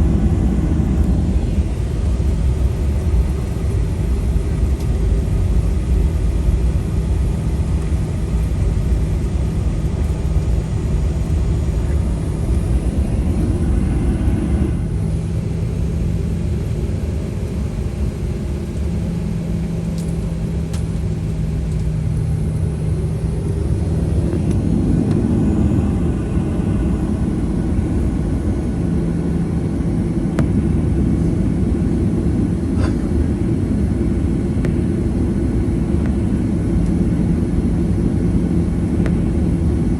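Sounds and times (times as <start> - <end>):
airplane cabin rumble: 0.0 - 39.9
low hum: 0.0 - 39.9.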